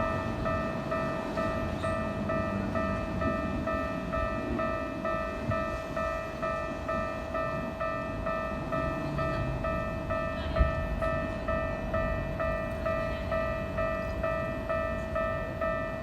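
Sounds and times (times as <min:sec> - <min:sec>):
continuous low rumble: 0:00.0 - 0:16.0
level crossing alarm clanging: 0:00.0 - 0:16.0.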